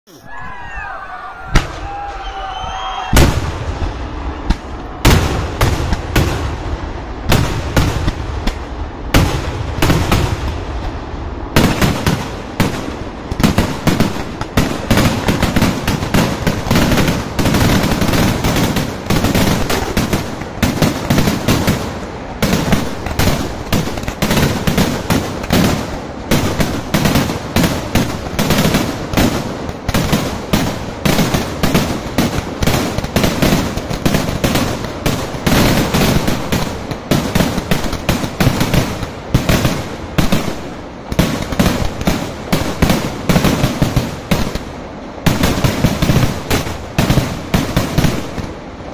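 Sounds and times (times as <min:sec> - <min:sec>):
fireworks barrage of loud bangs: 0:01.5 - 0:48.9.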